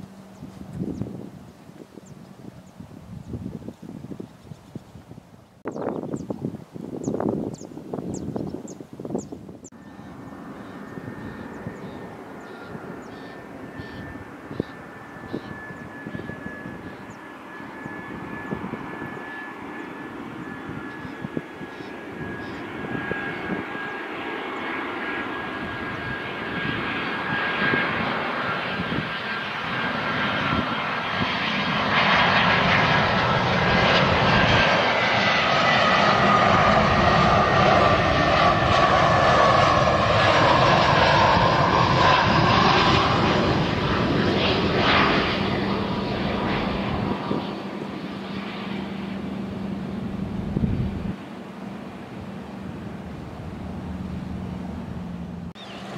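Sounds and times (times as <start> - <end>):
jet airliner engines whining and rumbling: 0.0 - 55.9.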